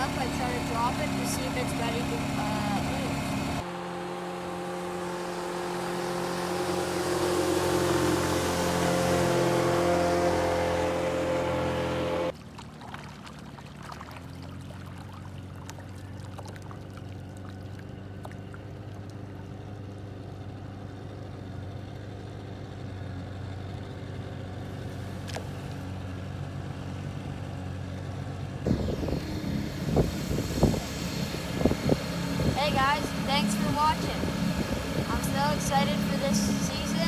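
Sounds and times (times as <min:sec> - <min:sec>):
outboard motor running: 0:00.0 - 0:37.0.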